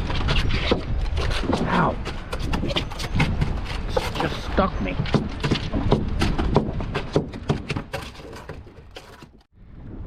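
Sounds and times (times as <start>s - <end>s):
rapid knocks and clatter: 0.0s - 4.4s, 5.0s - 9.5s.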